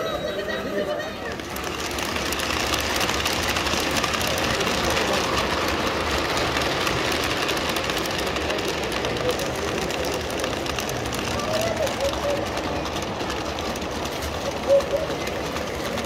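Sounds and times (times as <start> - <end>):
model train rumbling on track: 0.0 - 16.0
wheels clicking over rails: 0.0 - 16.0.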